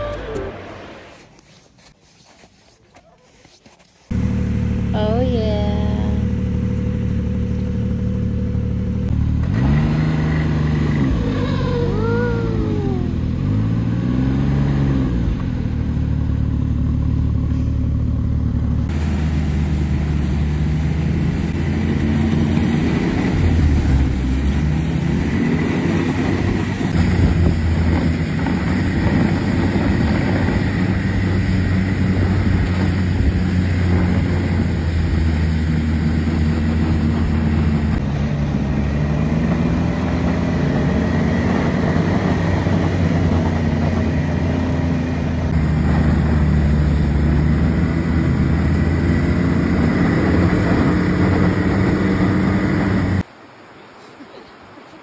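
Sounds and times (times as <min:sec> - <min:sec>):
snowmobile engines revving: 0:04.1 - 0:17.8, 0:18.6 - 0:53.2.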